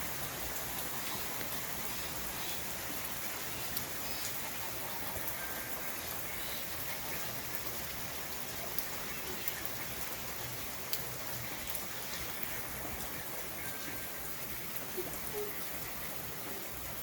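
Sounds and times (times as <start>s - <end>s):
raindrops ticking: 0.0s - 17.0s
steady rain falling: 0.0s - 17.0s.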